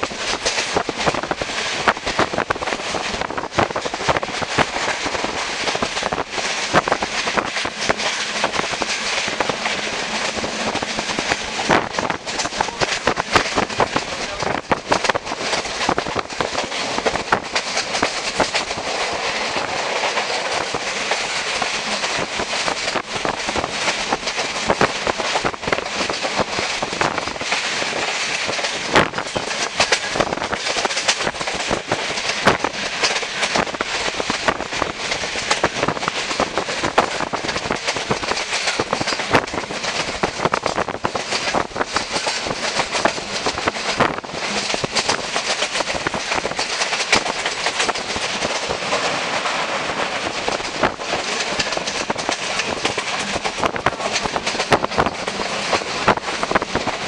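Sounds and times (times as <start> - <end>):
train running noise: 0.0 - 57.0
wheels clicking over rails: 0.0 - 57.0.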